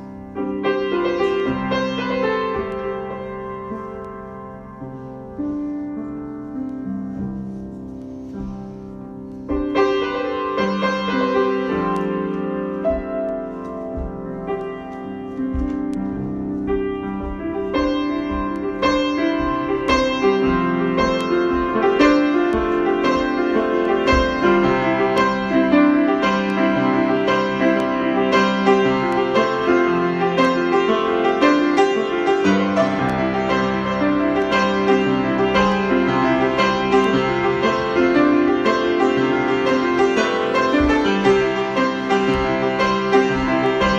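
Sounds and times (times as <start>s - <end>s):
solo piano playing: 0.0s - 43.9s.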